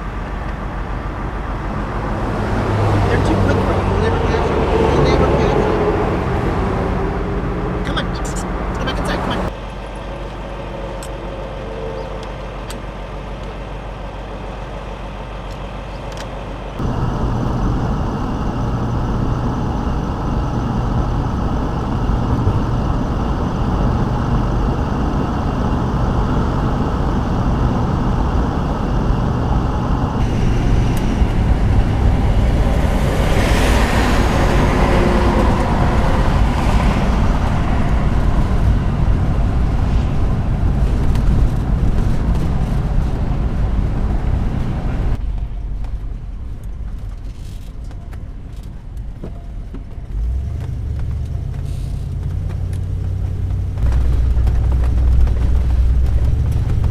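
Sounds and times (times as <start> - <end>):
engine hum: 0.0 - 11.2, 16.8 - 47.9, 48.5 - 56.9
road noise of driving: 0.0 - 56.9.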